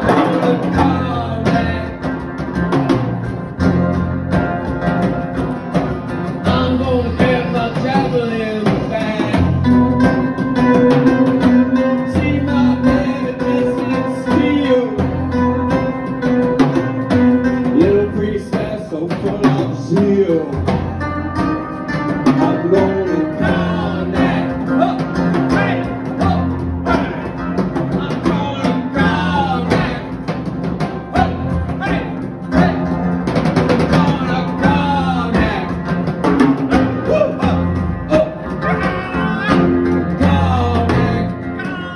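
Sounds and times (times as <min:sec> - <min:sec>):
man singing: 0:00.0 - 0:02.6, 0:06.3 - 0:15.9, 0:17.5 - 0:21.1, 0:22.1 - 0:30.4, 0:31.0 - 0:33.2, 0:33.8 - 0:41.9
rock band playing: 0:00.0 - 0:41.9.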